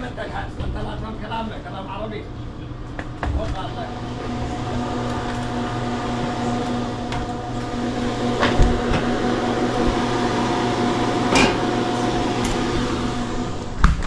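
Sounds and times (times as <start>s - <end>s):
cooling equipment humming: 0.0s - 14.0s.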